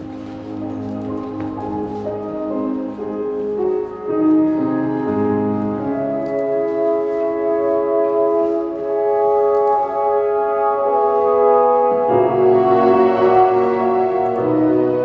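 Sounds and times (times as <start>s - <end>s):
slow classical instrumental music: 0.0s - 15.0s.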